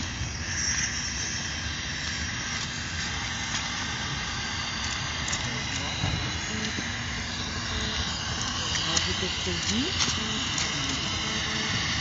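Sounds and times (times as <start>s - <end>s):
gas hissing through hose: 0.0s - 12.0s.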